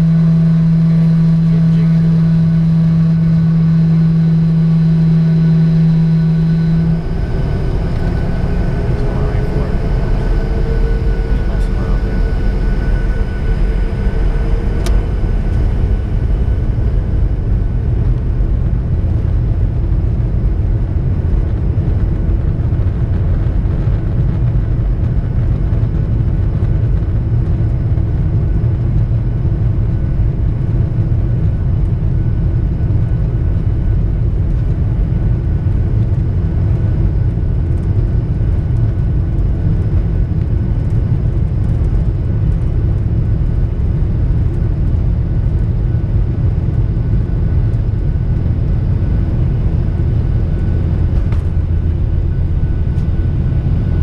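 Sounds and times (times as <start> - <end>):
faint engine whine: 0.0 - 54.0
jet engines rumbling: 0.0 - 54.0.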